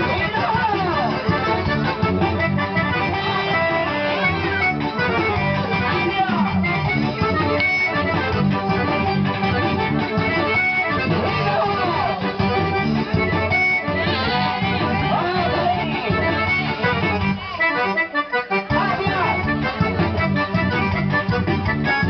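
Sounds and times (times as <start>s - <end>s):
accordion: 0.0s - 22.0s
guitar: 0.0s - 22.0s.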